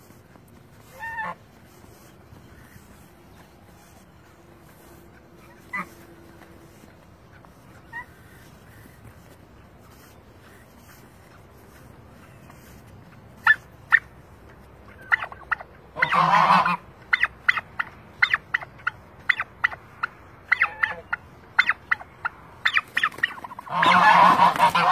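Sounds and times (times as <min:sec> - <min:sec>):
turkeys clucking: 0:00.0 - 0:24.9
turkey gobbling: 0:00.8 - 0:04.0, 0:04.6 - 0:11.8, 0:13.4 - 0:14.1, 0:14.8 - 0:24.9.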